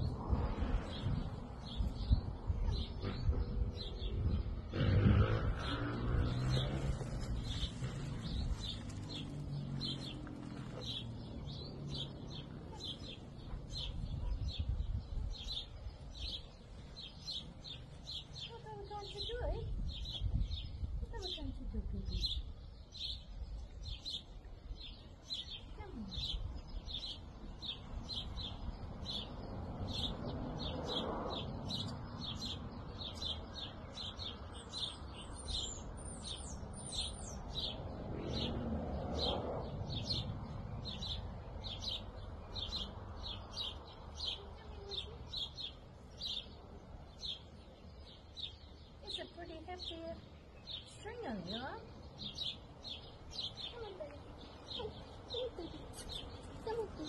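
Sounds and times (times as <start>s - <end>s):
small bird chirping: 5.6s - 38.6s, 39.9s - 57.0s.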